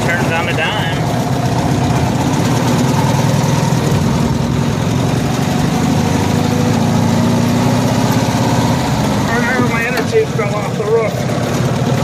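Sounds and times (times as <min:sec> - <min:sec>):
small engine idling: 0:00.0 - 0:06.0, 0:08.1 - 0:12.0.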